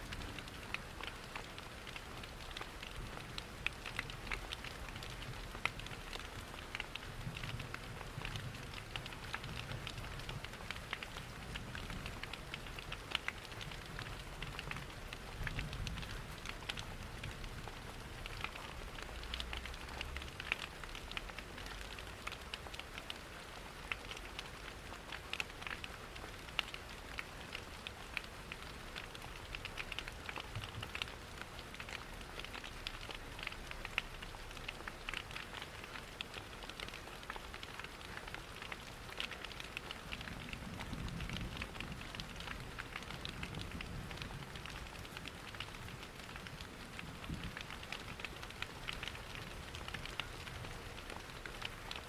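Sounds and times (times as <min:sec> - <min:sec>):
rain pattering: 0:00.0 - 0:52.0
log fire crackling: 0:00.1 - 0:52.0.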